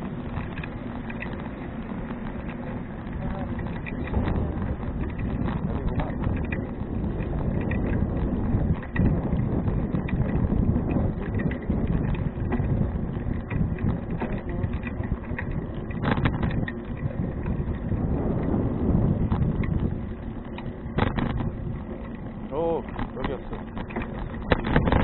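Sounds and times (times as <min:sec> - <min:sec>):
bike clicks and rattles: 0:00.0 - 0:25.0
tyre rumble: 0:00.0 - 0:25.0
wind on microphone: 0:00.0 - 0:25.0.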